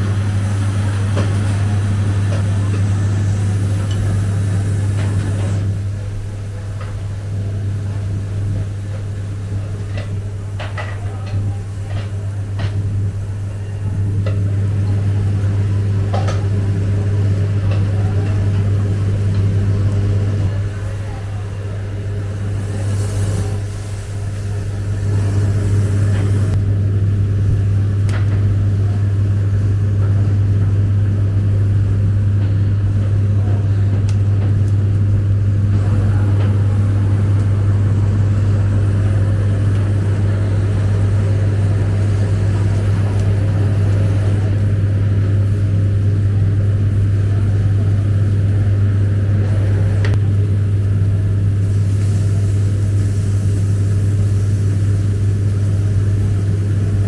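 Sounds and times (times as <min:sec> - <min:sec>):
kitchen machinery humming: 0:00.0 - 0:57.0.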